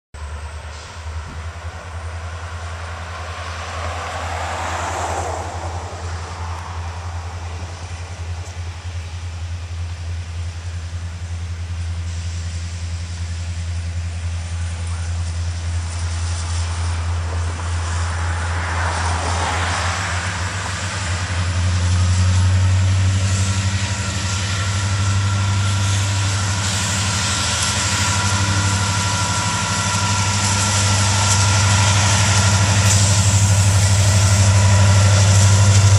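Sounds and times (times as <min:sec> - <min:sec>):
locomotive engine rumble: 0:00.1 - 0:35.9.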